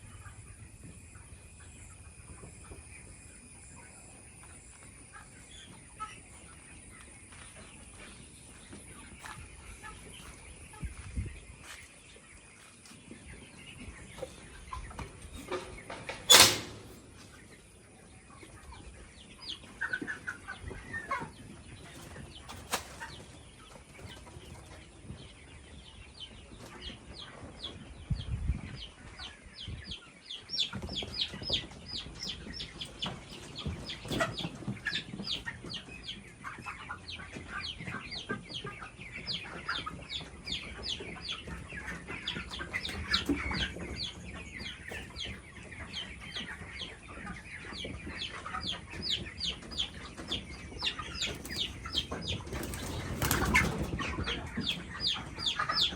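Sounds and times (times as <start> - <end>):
chickens calling: 0.0 - 55.9.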